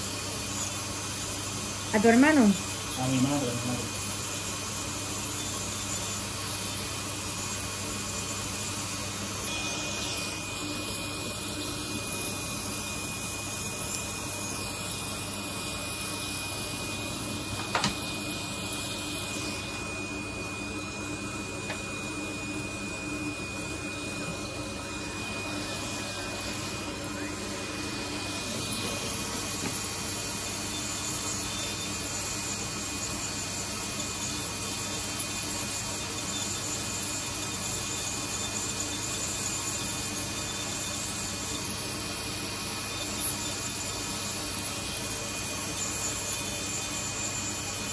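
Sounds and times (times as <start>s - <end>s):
thin high whine: 0.0s - 47.9s
nail drill grinding: 0.2s - 47.9s.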